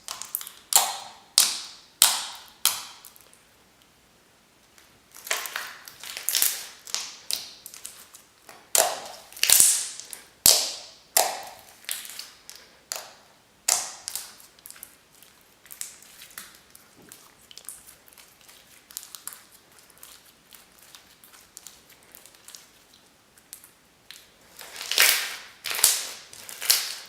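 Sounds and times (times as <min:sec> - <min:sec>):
slime popping and crackling: 0:00.0 - 0:03.3, 0:05.1 - 0:27.0.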